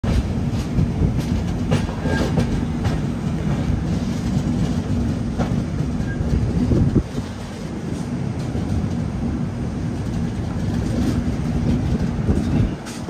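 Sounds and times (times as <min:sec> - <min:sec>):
train wheels rumbling on rail: 0:00.0 - 0:13.0
wheels clacking over rail joints: 0:00.0 - 0:13.0.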